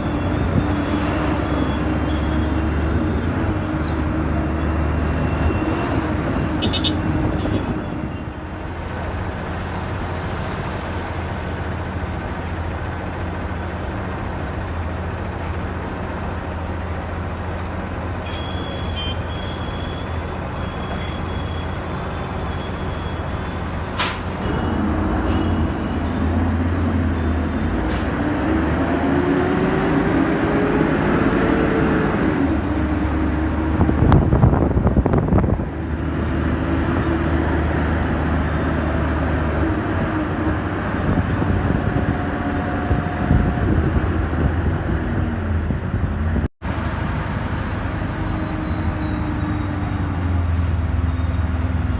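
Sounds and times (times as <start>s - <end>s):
bus engine running: 0.0s - 51.9s
road noise: 0.0s - 51.9s.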